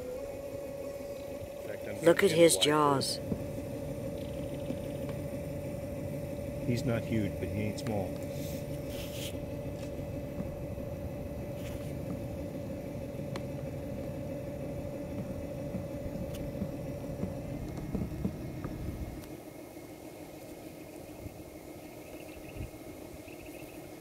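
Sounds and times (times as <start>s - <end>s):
boat motor idling rumble: 0.0s - 24.0s
steady hum: 0.0s - 24.0s.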